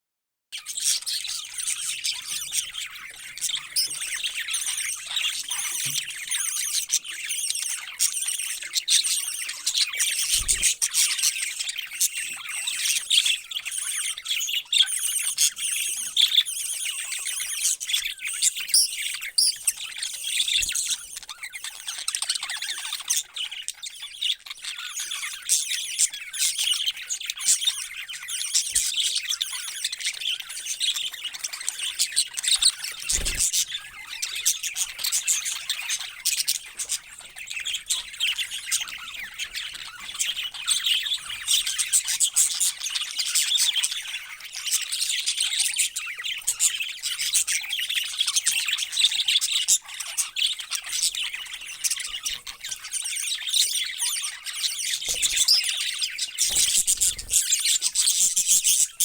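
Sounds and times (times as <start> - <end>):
parrots chirping and chattering: 0.6 - 59.0.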